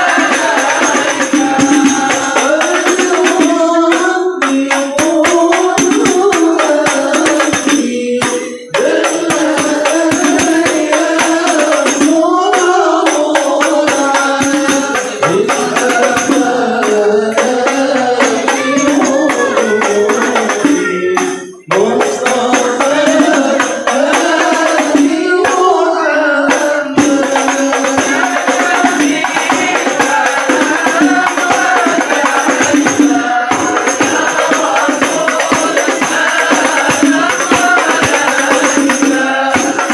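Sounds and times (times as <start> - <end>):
frame drum beating: 0.0 - 25.7, 26.6 - 39.9
men chanting together: 0.0 - 39.9.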